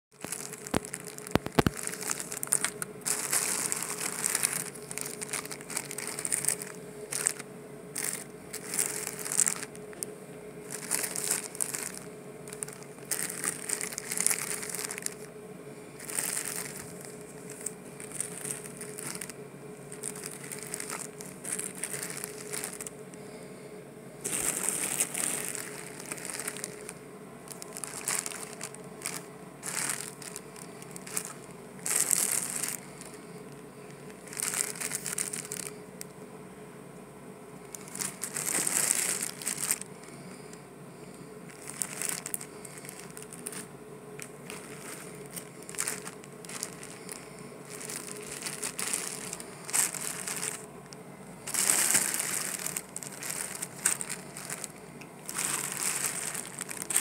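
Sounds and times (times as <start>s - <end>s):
plastic bags crinkling: 0.1s - 23.4s, 24.2s - 36.1s, 37.6s - 57.0s
faint hum: 0.1s - 57.0s.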